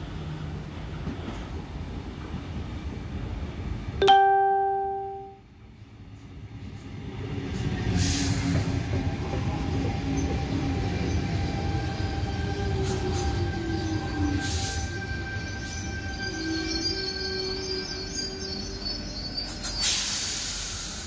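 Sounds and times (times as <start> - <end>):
train wheels and motors rumbling: 0.0 - 4.0, 5.6 - 21.0.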